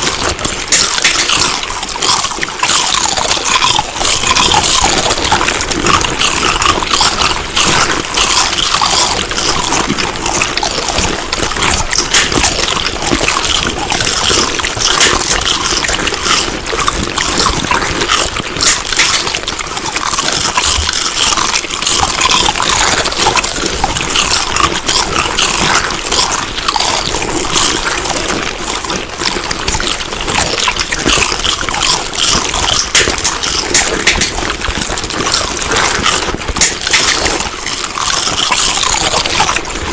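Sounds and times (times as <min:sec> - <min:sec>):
wet chewing sounds: 0:00.0 - 0:39.9.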